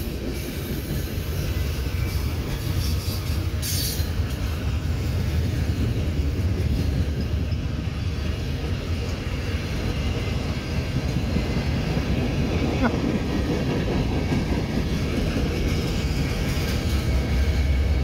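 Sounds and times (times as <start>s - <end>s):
steel train wheels rumbling on rail: 0.0s - 18.0s.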